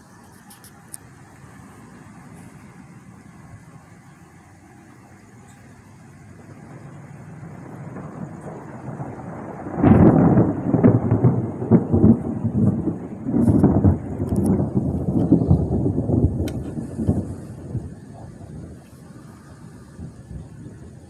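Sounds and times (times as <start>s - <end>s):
thunder rumbling: 1.1s - 21.0s.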